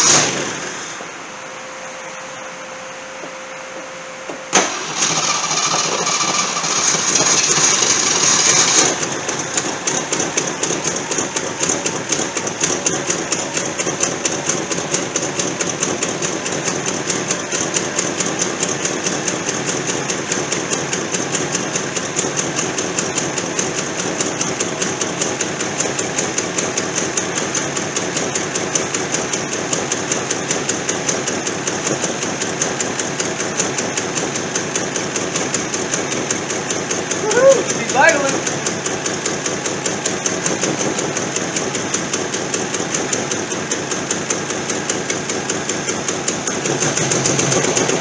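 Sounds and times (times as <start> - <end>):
engine idling: 4.5 - 48.0.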